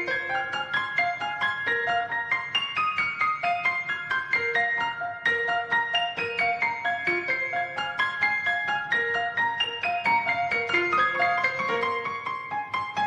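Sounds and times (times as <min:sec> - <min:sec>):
light piano tune: 0:00.0 - 0:13.0.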